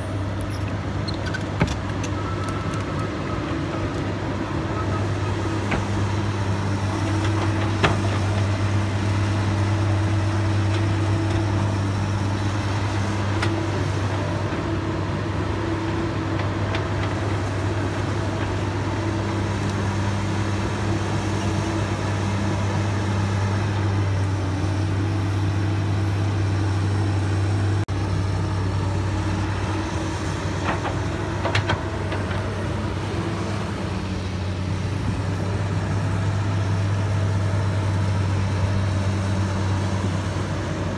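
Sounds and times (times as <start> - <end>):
excavator diesel engine humming: 0.0 - 40.9.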